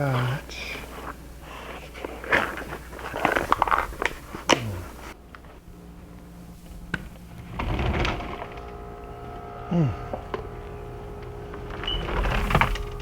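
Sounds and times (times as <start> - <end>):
hardware clicking and rattling: 0.0 - 13.0
low steady hum: 0.0 - 13.0.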